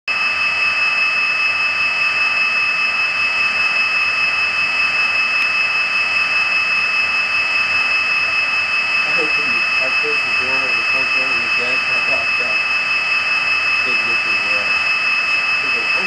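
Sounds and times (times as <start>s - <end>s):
high-pitched whine: 0.1s - 16.0s.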